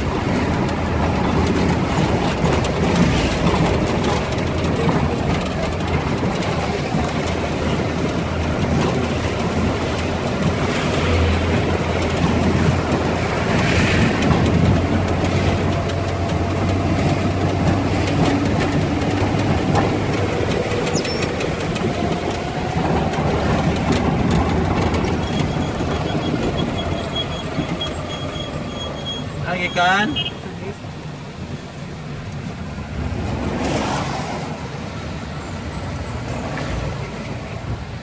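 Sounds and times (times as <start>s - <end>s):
tyres on wet road: 0.0s - 38.0s
vehicle engine and road noise: 0.0s - 38.0s.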